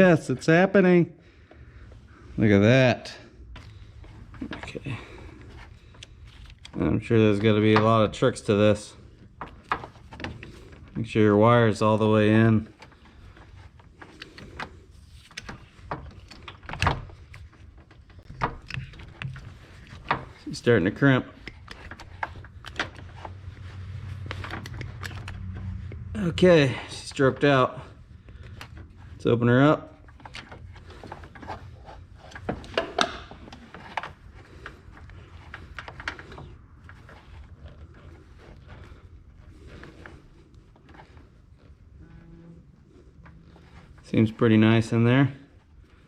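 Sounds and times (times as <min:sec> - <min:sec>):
steady low hum: 0:01.2 - 0:46.0.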